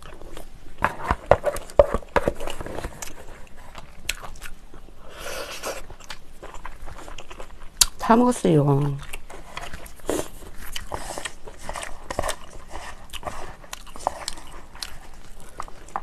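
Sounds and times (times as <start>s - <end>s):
chewing noodles: 0.0s - 8.0s, 8.6s - 16.0s.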